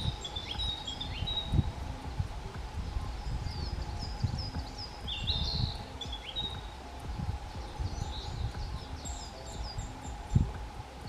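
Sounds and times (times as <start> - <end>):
low rumble on microphone: 0.0 - 11.0
songbirds singing: 0.0 - 11.0.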